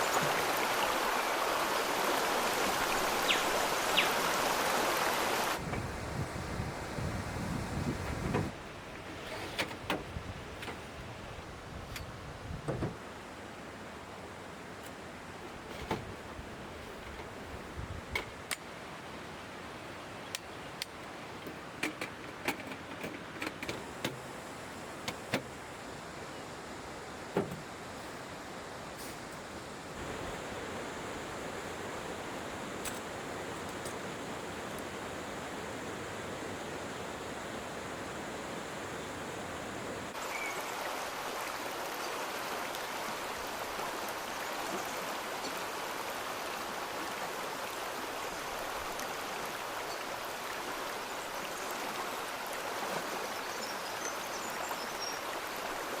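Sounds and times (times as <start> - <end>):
rushing water: 0.0 - 11.8, 12.8 - 56.0.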